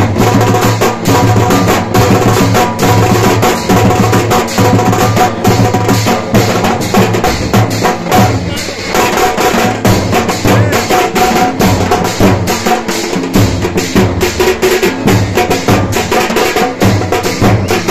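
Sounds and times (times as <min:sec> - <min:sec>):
drums beating fast: 0:00.0 - 0:17.9.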